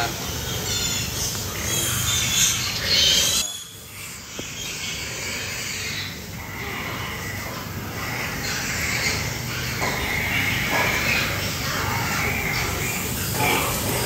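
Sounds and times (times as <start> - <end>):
piglets squealing: 0.0 - 14.0.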